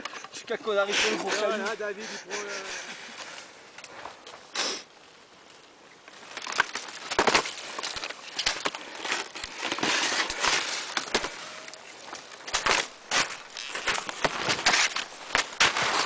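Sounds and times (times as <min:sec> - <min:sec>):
branches cracking and rustling: 0:02.7 - 0:16.0.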